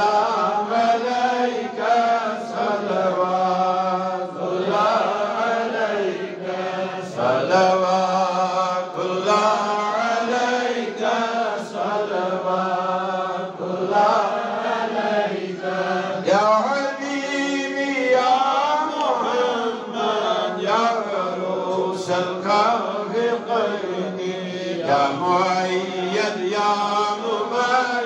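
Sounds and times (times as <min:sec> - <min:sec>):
man chanting into a microphone: 0:00.0 - 0:14.6, 0:15.5 - 0:28.0.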